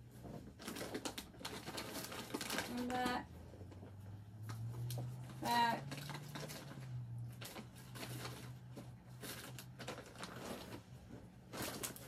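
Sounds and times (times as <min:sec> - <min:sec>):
rustling and clicks of handled objects: 0:00.0 - 0:12.0.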